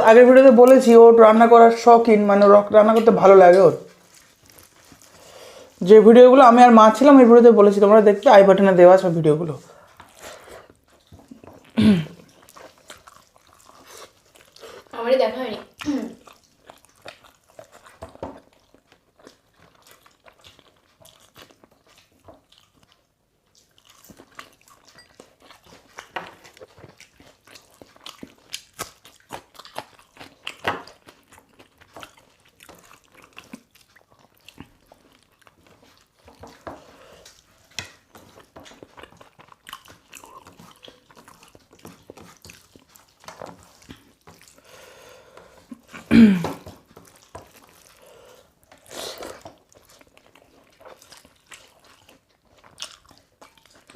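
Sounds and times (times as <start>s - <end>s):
people chewing and crunching food: 0.0s - 53.9s.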